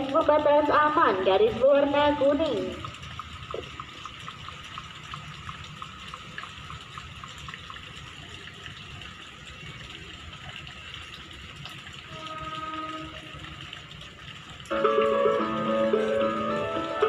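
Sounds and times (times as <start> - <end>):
open-air ambience hiss: 0.0 - 17.0.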